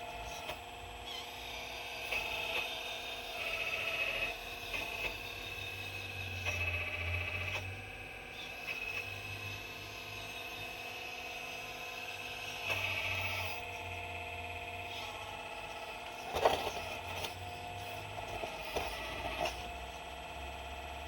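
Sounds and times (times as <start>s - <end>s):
excavator whine and hum: 0.0s - 21.0s.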